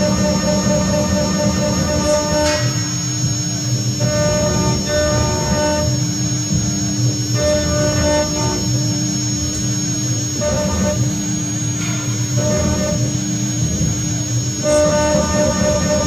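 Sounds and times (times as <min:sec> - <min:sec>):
engraving bit cutting metal: 0:00.0 - 0:16.0
machine axes mechanical hum: 0:00.0 - 0:16.0
router spindle high whine: 0:00.0 - 0:16.0.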